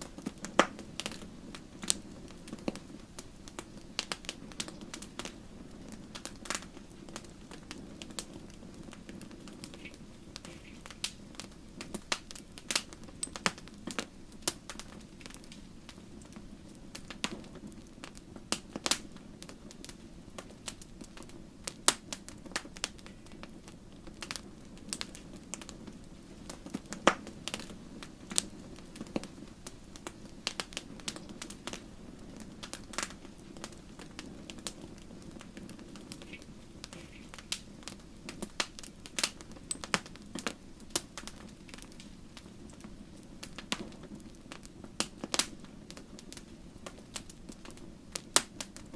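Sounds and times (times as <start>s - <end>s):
logs crackling and popping: 0.0s - 48.9s.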